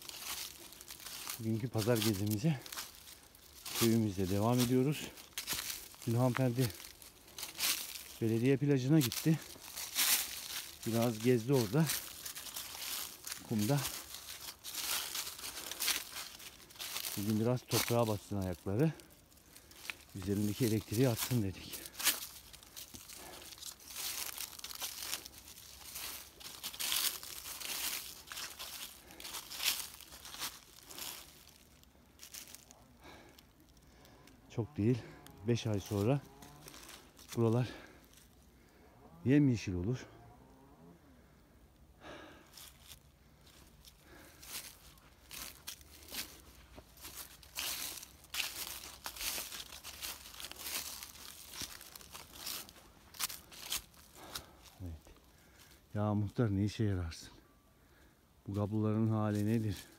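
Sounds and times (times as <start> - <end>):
footsteps crunching dry leaves: 0.0 - 38.8, 42.1 - 57.4, 58.0 - 59.9.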